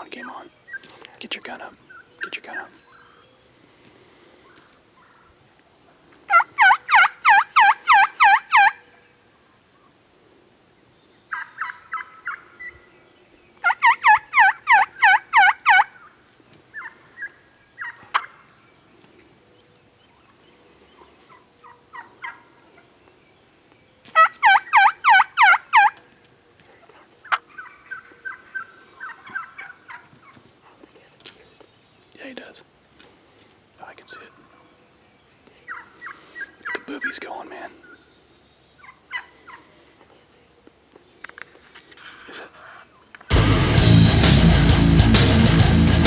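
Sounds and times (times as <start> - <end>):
turkeys calling: 0.1 - 10.0, 11.3 - 12.9, 13.6 - 31.7, 32.6 - 43.3.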